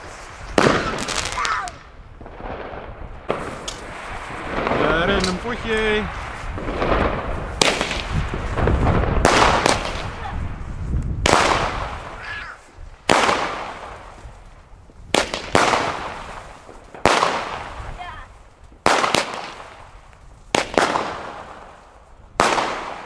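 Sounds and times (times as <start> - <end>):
fireworks bangs echoing: 0.0 - 23.0.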